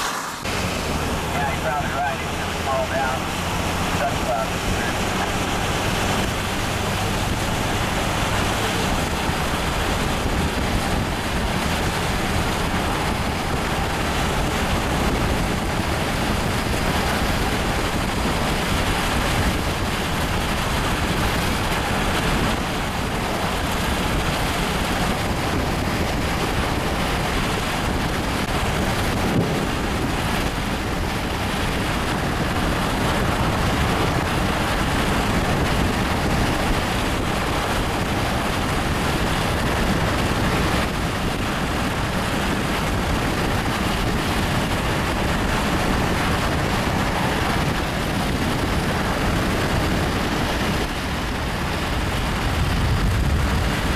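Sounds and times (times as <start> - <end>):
wind and road noise: 0.0 - 53.9.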